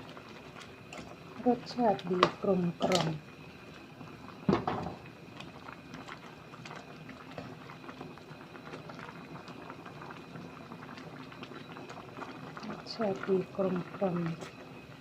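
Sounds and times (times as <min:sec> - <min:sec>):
curry simmering and bubbling: 0:00.0 - 0:15.0.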